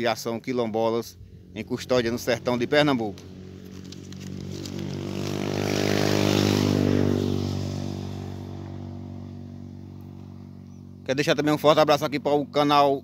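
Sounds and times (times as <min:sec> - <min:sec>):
vehicle passing by: 0:01.1 - 0:12.8.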